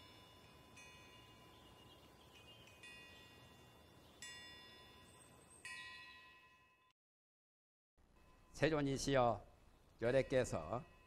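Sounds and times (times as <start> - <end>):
faint chimes ringing: 0.0 - 6.9, 8.1 - 9.4, 10.0 - 11.0.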